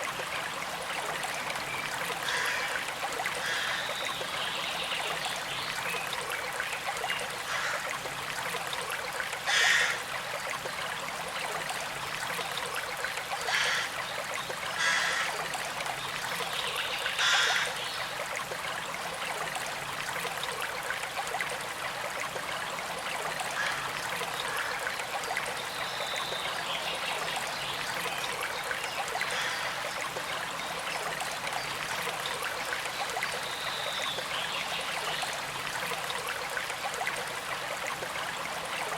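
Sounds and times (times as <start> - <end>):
creek trickling over stones: 0.0 - 38.9.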